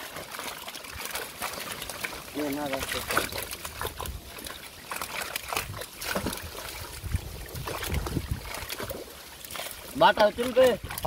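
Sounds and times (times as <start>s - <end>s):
fish thrashing and splashing: 0.0s - 11.0s
water trickling: 0.0s - 11.0s.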